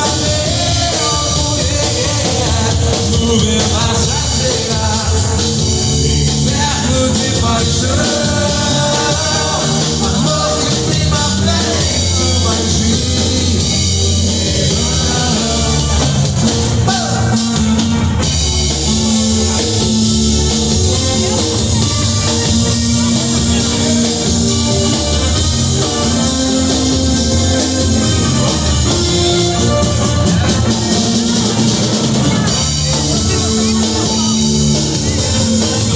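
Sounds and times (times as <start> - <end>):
band playing instrumental music: 0.0 - 35.9
drum kit: 0.0 - 35.9
guitar: 0.0 - 35.9.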